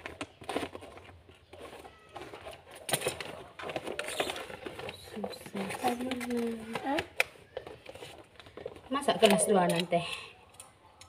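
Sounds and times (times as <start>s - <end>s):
wrapping paper rustling: 0.0s - 10.6s.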